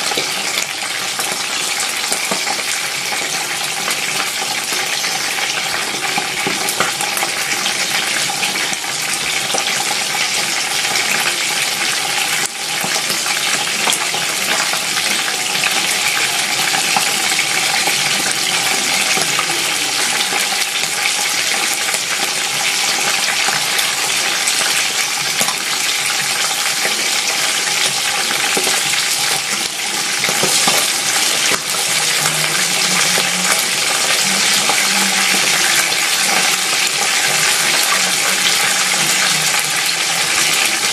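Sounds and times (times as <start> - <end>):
hot oil sizzling: 0.0 - 40.9
oil crackling and popping: 0.0 - 40.9.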